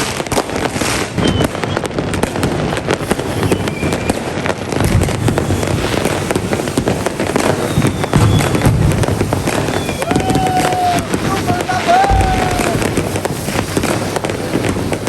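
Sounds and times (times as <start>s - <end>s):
fireworks crackling: 0.0s - 15.0s
heavy firework booms: 0.0s - 15.0s
faint firework whistles: 0.7s - 15.0s.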